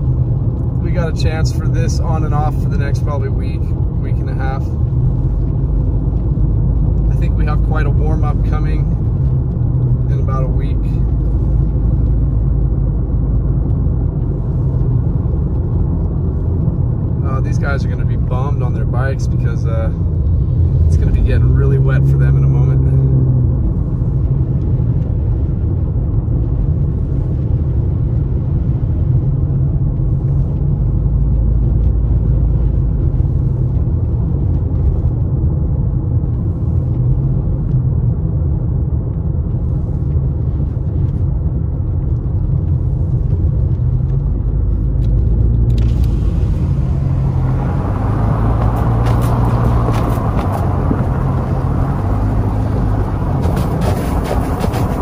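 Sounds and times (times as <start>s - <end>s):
car cabin engine and tyre rumble: 0.0s - 55.0s.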